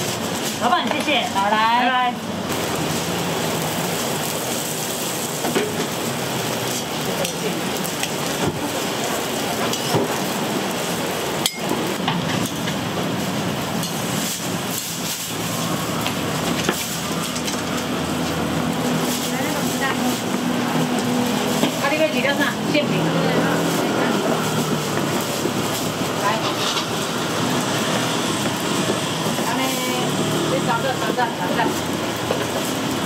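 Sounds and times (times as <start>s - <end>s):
food sizzling in oil: 0.0s - 33.0s.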